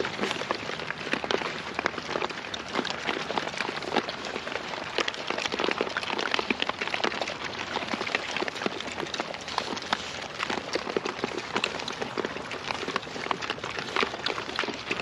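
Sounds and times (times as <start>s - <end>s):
trotters crunching dry leaves: 0.0s - 15.0s.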